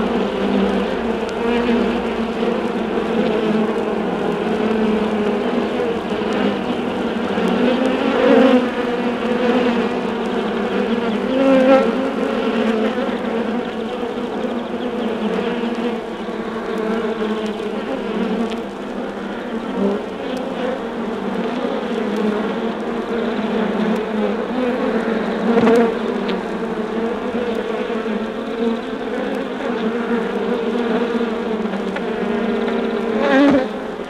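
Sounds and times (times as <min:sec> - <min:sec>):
bees droning in hive: 0:00.0 - 0:34.0.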